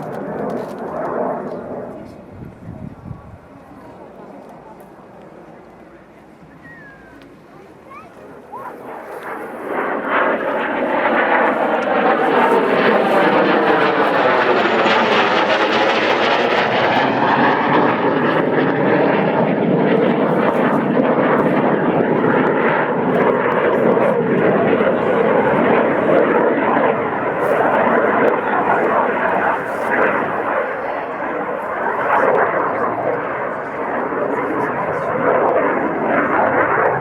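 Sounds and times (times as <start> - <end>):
airplane flying past: 0.0 - 37.0.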